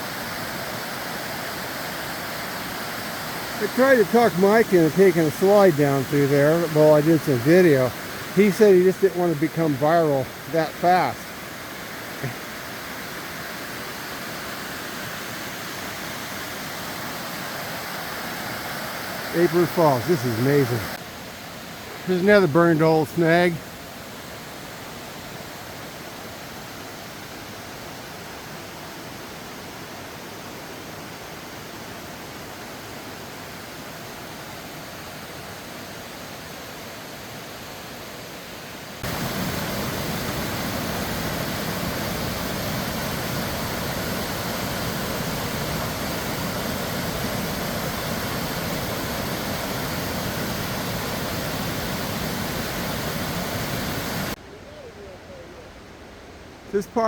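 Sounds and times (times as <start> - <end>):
waterfall rushing: 0.0 - 36.5, 38.4 - 54.4.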